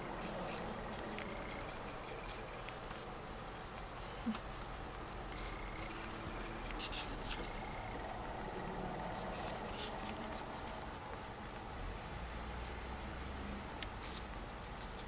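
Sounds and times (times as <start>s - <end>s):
small animals chewing wetly: 0.0s - 15.0s.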